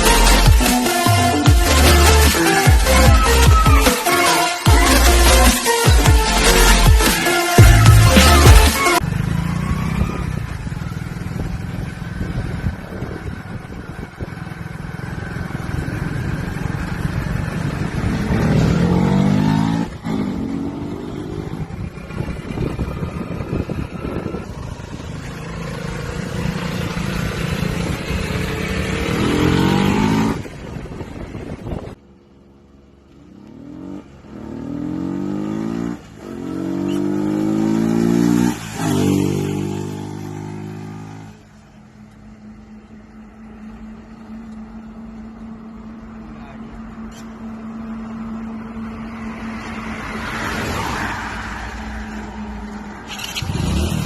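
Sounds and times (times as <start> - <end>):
motorcycle engine revving: 4.7 - 32.0, 33.1 - 50.6, 52.9 - 54.0.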